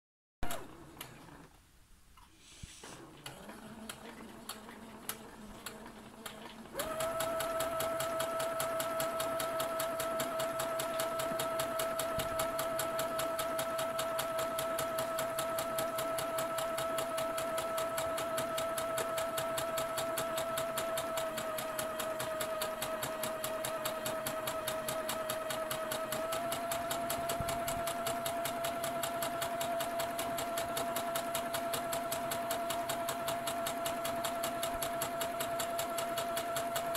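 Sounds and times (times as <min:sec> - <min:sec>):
sewing machine stitching: 0:00.4 - 0:01.6, 0:02.7 - 0:36.9.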